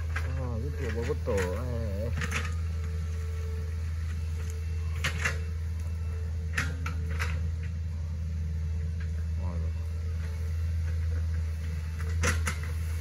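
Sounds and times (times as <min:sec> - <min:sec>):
excavator diesel engine running: 0:00.0 - 0:13.0
hydraulic whine: 0:00.0 - 0:13.0.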